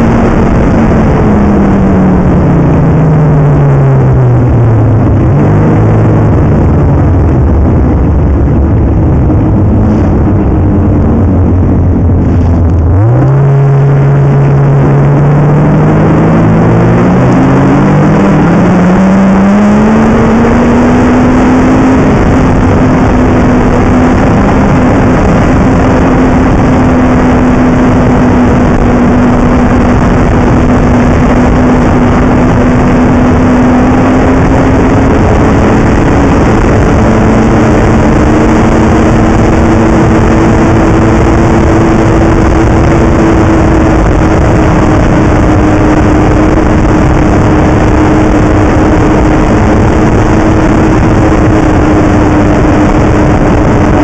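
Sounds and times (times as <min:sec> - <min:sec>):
heavy rushing noise: 0:00.0 - 0:54.0
snowmobile engine running: 0:00.0 - 0:54.0.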